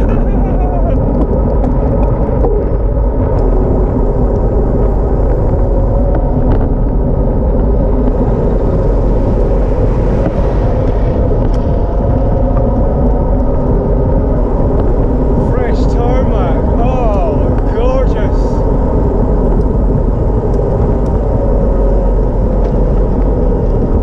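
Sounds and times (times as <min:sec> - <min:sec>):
road rumble: 0:00.0 - 0:24.0
wind noise: 0:00.0 - 0:24.0.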